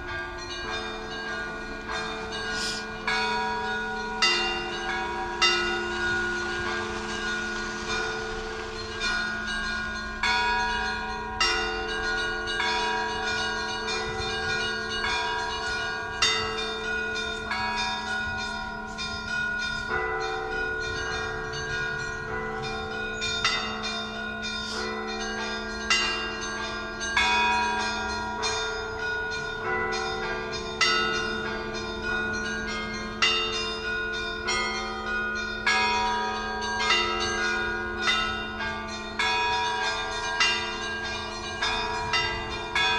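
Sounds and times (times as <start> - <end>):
hum of large bells: 0.0 - 42.9
small church bells ringing: 0.0 - 42.9.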